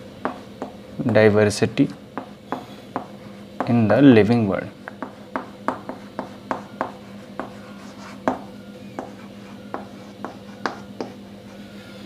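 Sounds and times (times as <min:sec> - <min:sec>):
chalk tapping and scraping on chalkboard: 0:00.2 - 0:01.3, 0:02.2 - 0:04.0, 0:04.8 - 0:11.6.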